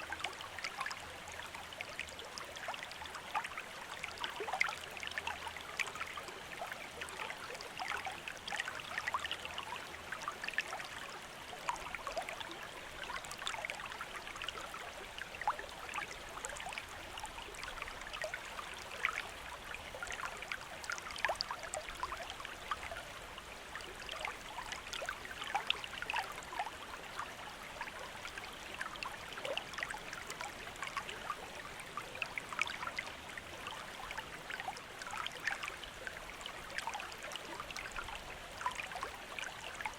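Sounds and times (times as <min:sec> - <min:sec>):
small splashes and trickles: 0:00.0 - 0:39.9.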